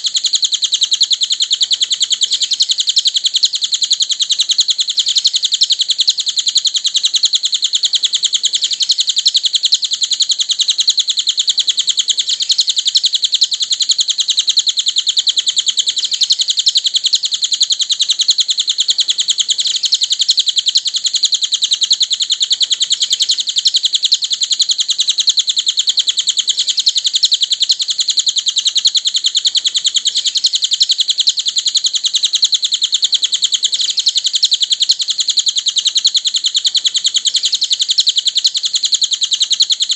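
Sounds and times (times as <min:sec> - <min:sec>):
bird chirping trill: 0:00.0 - 0:39.9.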